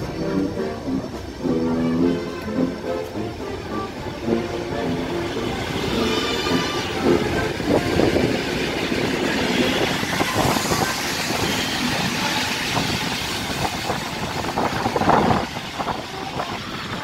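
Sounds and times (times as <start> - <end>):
train knocks and clunks: 0.0 - 17.0
train wheel-on-rail rumble: 0.0 - 17.0.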